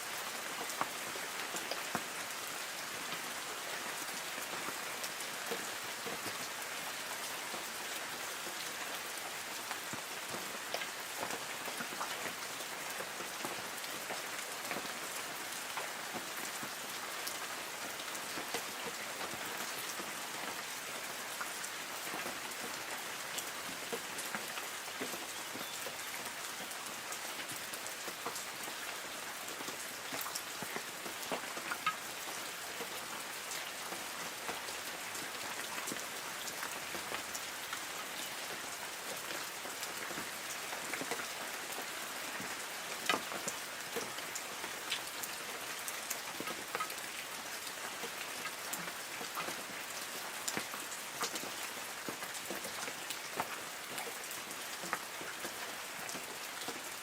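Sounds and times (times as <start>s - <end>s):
light rain on trees: 0.0s - 57.0s.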